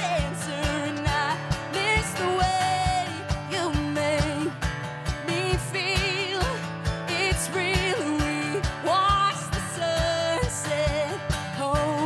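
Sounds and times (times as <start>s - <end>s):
acoustic guitar strummed: 0.0s - 12.0s
cajon beat: 0.0s - 12.0s
woman singing: 0.0s - 12.0s.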